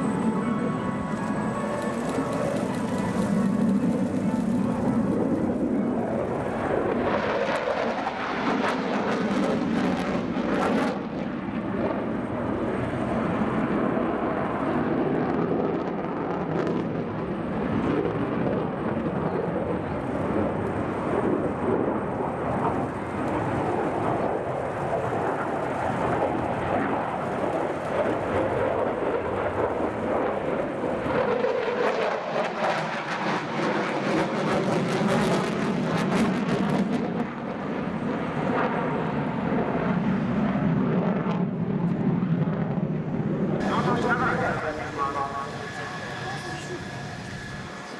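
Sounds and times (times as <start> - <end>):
fighter jet engine rumble: 0.0 - 47.9.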